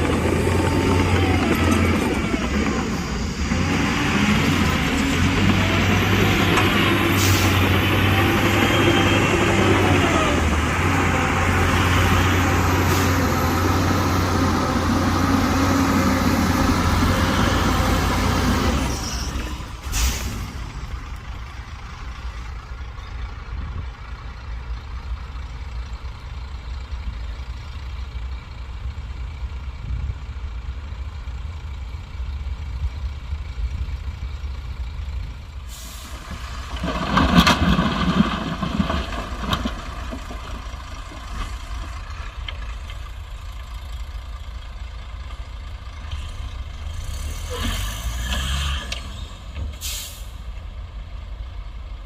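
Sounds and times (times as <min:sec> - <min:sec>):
heavy diesel machinery rumbling: 0:00.0 - 0:52.0.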